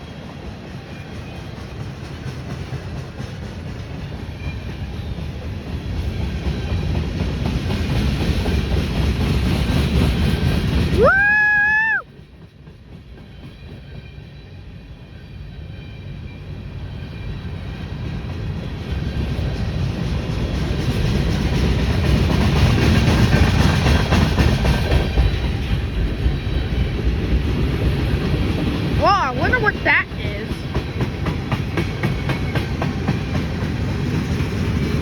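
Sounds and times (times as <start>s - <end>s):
freight train passing: 0.0s - 35.0s.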